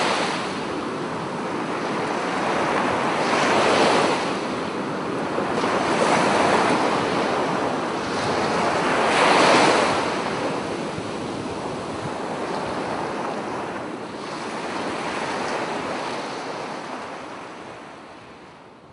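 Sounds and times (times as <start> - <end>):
waves breaking on beach: 0.0 - 18.6.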